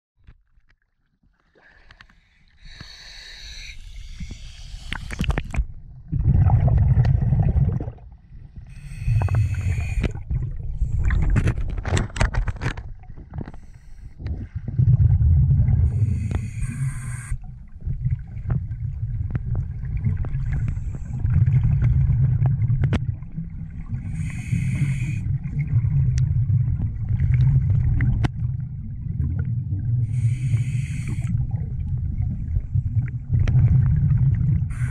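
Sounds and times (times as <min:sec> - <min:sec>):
muffled underwater rumble: 0:01.9 - 0:34.9.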